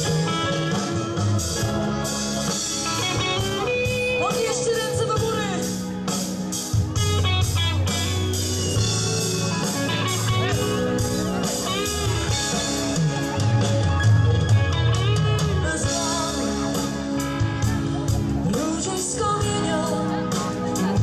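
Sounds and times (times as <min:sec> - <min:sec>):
bass line: 0:00.0 - 0:21.0
drum kit: 0:00.0 - 0:21.0
electric guitars: 0:00.0 - 0:21.0.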